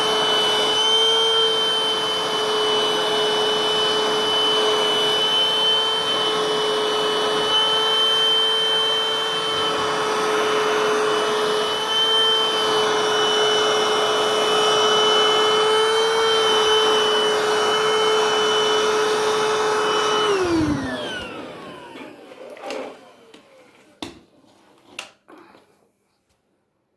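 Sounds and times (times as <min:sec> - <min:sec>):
vacuum cleaner running: 0:00.0 - 0:24.3.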